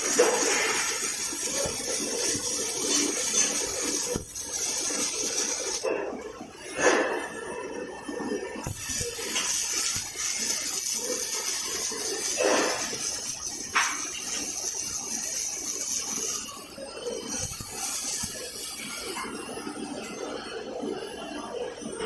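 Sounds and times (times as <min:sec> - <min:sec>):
welding arc hissing and crackling: 0:00.0 - 0:22.0.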